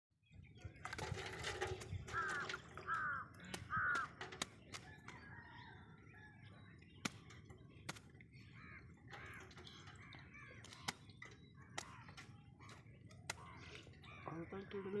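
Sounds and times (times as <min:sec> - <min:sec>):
bird harsh calls: 0:01.8 - 0:15.0.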